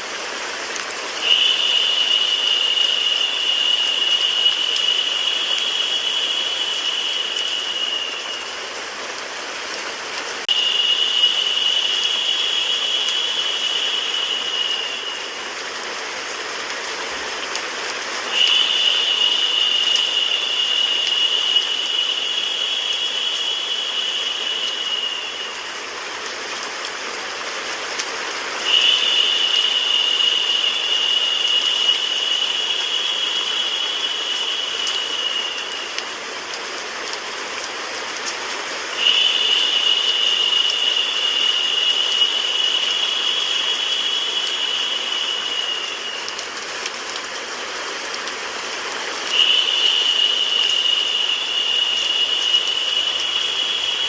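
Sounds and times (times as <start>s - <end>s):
high narrow hiss: 0.0s - 54.0s
rain-like white noise: 0.0s - 54.0s.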